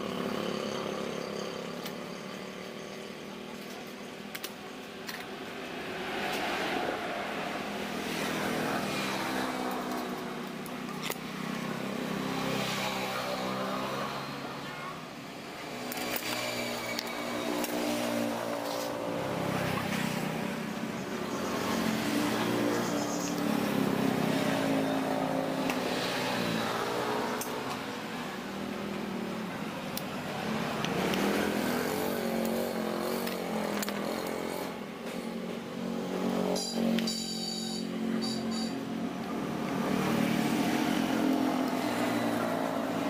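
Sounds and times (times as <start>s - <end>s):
passing road vehicles: 0.0s - 43.0s.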